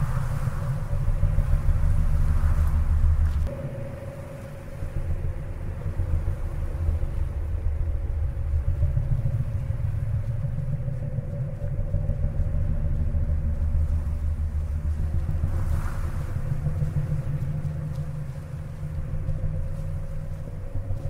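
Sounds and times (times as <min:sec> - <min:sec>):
faint steady hum: 0:00.0 - 0:21.0
wind buffeting microphone: 0:00.0 - 0:21.0.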